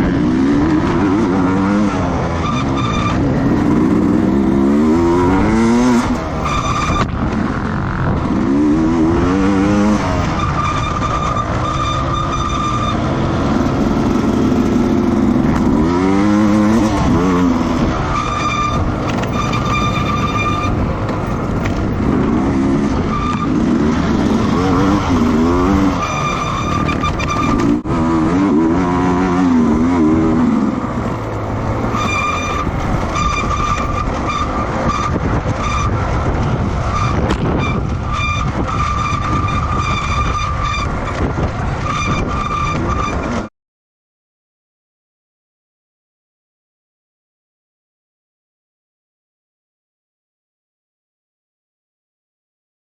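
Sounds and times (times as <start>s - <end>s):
racing motorcycle engines revving: 0.0s - 43.5s.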